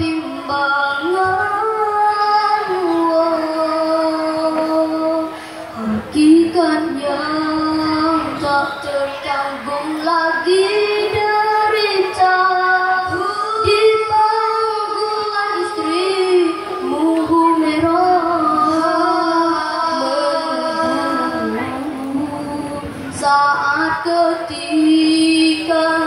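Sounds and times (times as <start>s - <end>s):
children singing through loudspeakers: 0.0s - 26.0s.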